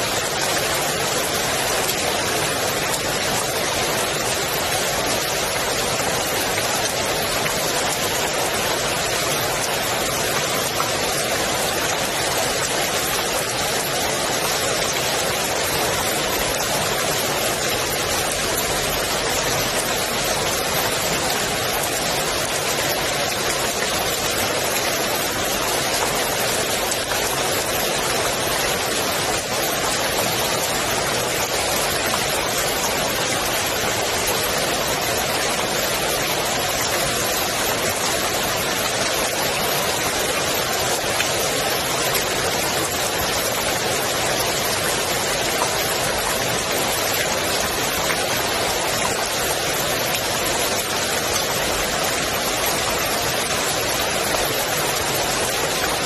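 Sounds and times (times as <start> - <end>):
rain falling on pool water: 0.0 - 56.0.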